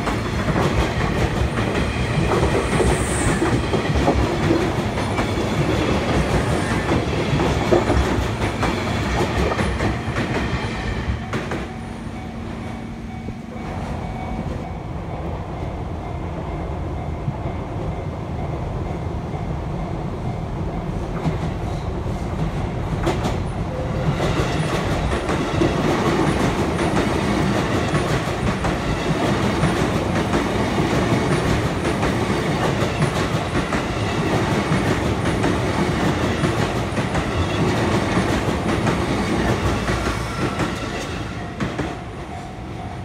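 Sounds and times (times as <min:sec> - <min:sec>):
train wheels clattering on rails: 0:00.0 - 0:14.7, 0:20.7 - 0:43.0.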